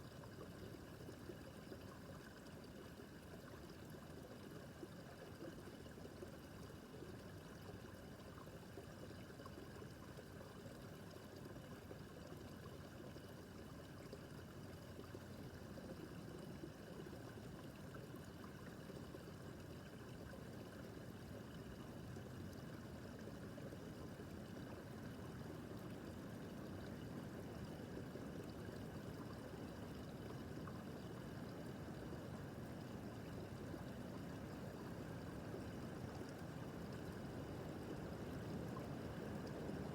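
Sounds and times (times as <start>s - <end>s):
brook trickling over stones: 0.0s - 39.9s.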